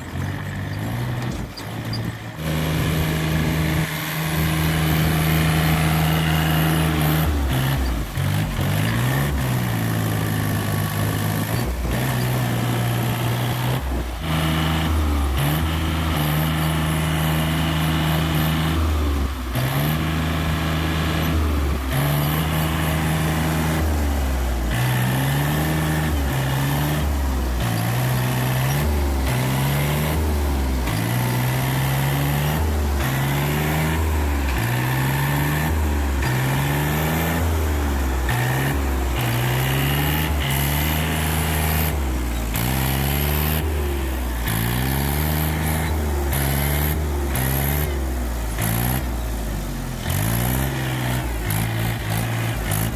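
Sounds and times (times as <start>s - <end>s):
tractor diesel engines revving: 0.0s - 52.9s.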